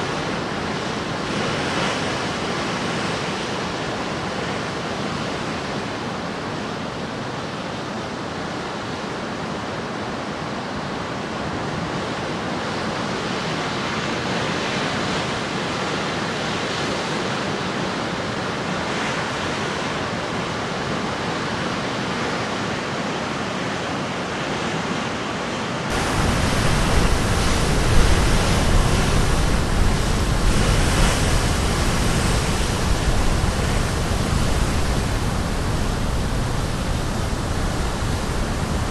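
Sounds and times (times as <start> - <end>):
sea surf washing on shore: 0.0 - 38.9.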